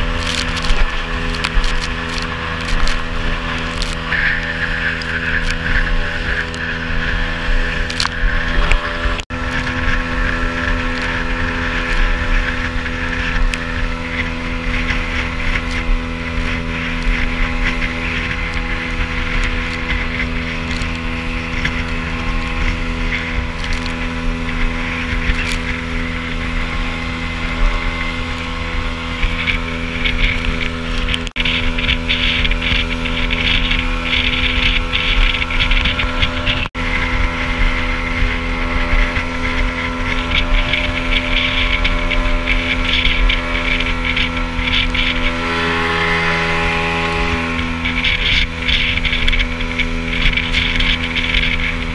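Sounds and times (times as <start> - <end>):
outboard motor running: 0.0 - 51.9
wind on microphone: 0.0 - 51.9.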